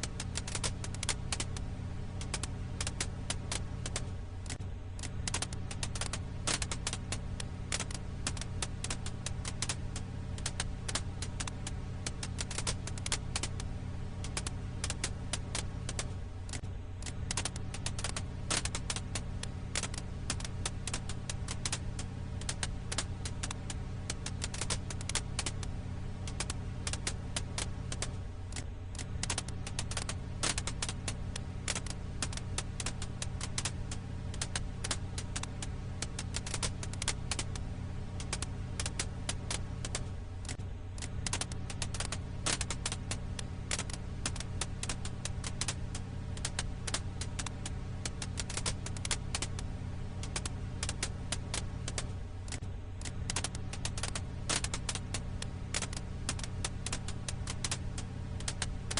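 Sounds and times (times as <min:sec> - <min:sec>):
firewood snapping and popping: 0:00.0 - 0:58.9
steady low hum: 0:00.0 - 0:58.9.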